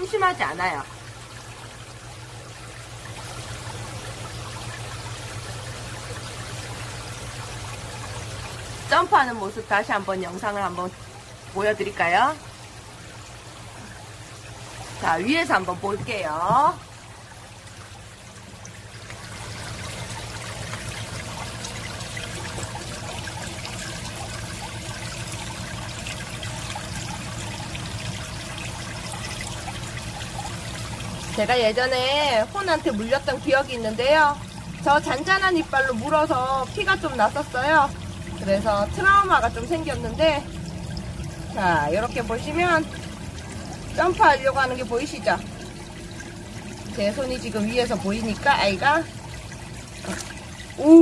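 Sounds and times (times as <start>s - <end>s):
aquarium filter water splashing: 0.0s - 51.0s
low steady hum: 0.0s - 51.0s.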